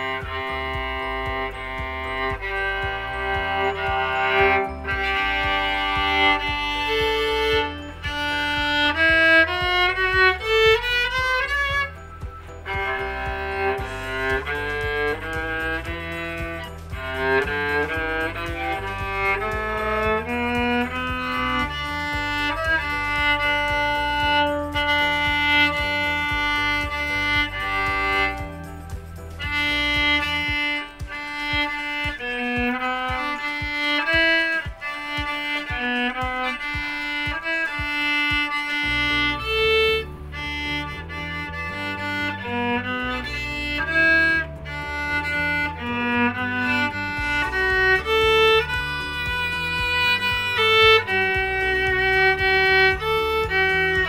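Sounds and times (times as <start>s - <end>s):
bowed viola melody: 0.0s - 54.0s.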